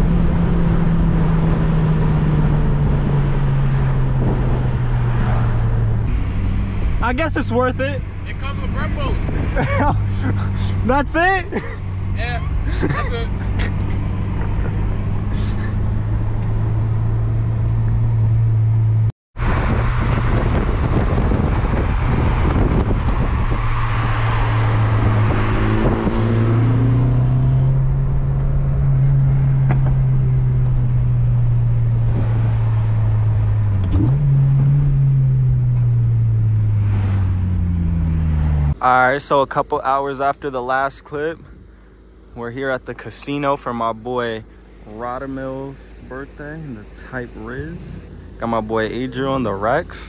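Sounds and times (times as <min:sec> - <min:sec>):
car engine droning: 0:00.0 - 0:50.0.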